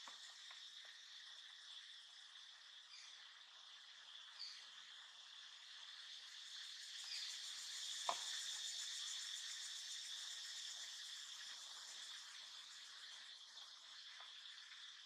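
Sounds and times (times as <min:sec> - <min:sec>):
faint insect chorus buzz: 0:00.0 - 0:15.0.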